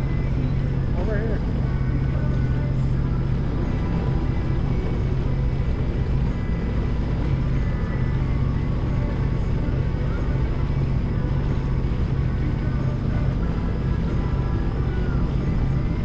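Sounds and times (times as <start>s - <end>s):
watercraft engine droning: 0.0s - 16.0s.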